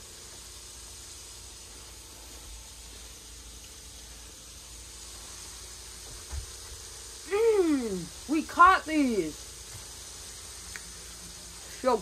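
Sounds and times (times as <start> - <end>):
grease sizzling in pan: 0.0 - 12.0.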